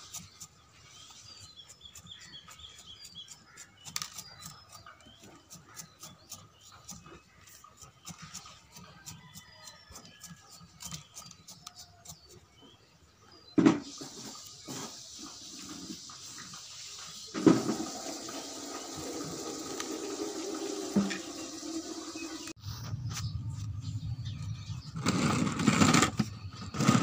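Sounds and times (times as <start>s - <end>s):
small birds chirping: 0.0s - 17.5s, 21.2s - 27.0s.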